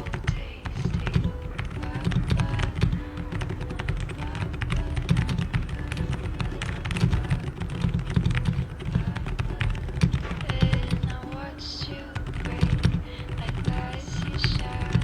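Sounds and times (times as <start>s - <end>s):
background music: 0.0s - 15.0s
mechanical keyboard typing: 0.0s - 15.0s.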